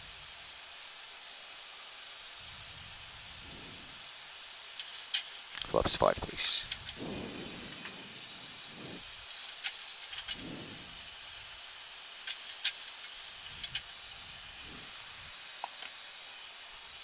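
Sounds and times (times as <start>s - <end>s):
airflow and air conditioning hiss: 0.0s - 17.0s.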